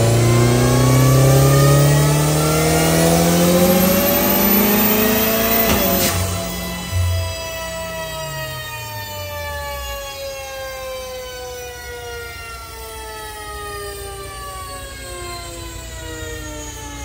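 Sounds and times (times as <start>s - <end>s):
driveline whine falling in pitch: 0.0s - 17.0s.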